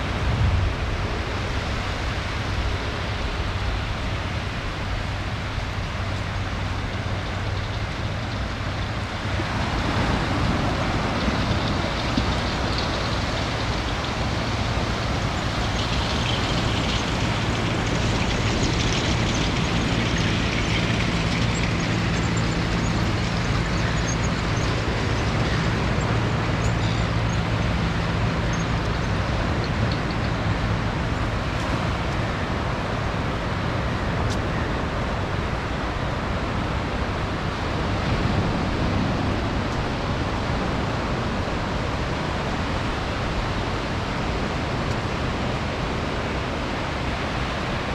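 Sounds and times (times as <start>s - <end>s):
vehicle engine humming: 0.0s - 47.9s
wind noise: 0.0s - 47.9s.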